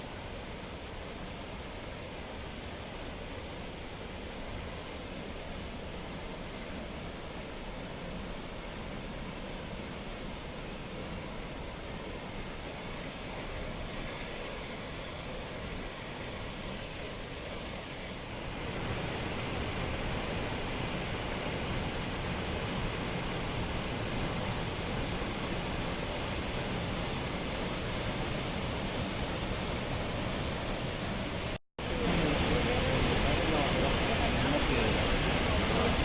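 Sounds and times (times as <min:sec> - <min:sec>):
waterfall rushing: 0:00.4 - 0:36.0.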